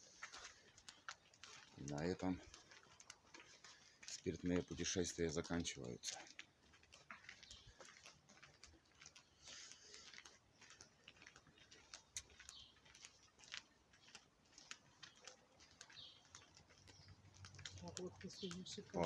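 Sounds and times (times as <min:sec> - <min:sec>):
faint irregular clicks and ticks: 0:00.0 - 0:19.0.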